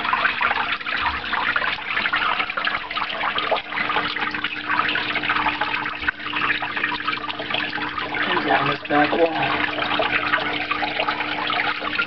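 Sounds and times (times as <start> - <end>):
faint steady hum: 0.0 - 12.0
small waterfall splashing: 0.0 - 12.0.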